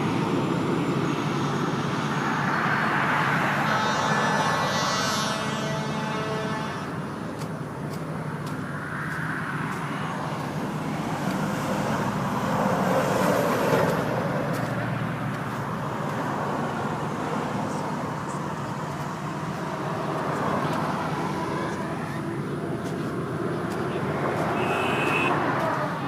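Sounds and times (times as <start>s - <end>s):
steady engine hum: 0.0s - 26.0s
vehicle passing with tyre noise: 0.0s - 26.0s.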